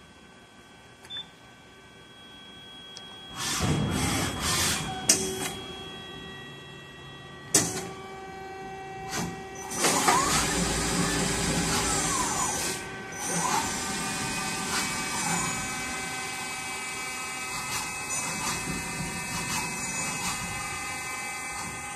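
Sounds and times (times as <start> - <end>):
electrical hum: 0.0 - 21.9
machine motor motion noise: 3.3 - 21.9.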